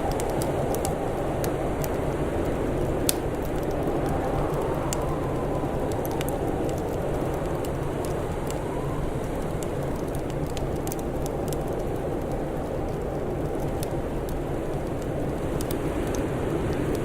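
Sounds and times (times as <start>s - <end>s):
low rumbling hiss: 0.0s - 17.0s
wood fire crackling: 0.0s - 17.0s.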